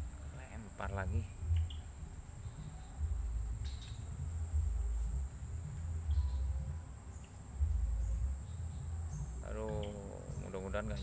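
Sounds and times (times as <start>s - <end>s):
high-pitched insect chorus: 0.0s - 11.0s
low uneven rumble: 0.0s - 11.0s.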